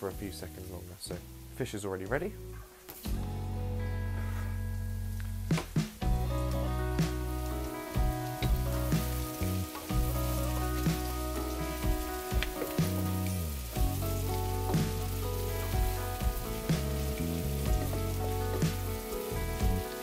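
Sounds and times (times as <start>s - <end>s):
easy-listening background music: 0.0s - 20.0s
vegetables sizzling in a wok: 2.7s - 20.0s.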